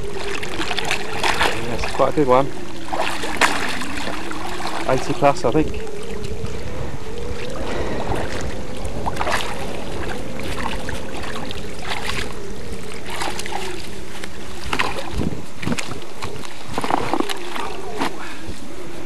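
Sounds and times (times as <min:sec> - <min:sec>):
fish tail thrashing in water: 0:00.0 - 0:18.5
water splashing and sloshing: 0:00.0 - 0:19.0
wavering low hum: 0:00.0 - 0:19.0
wind on microphone: 0:00.0 - 0:19.0.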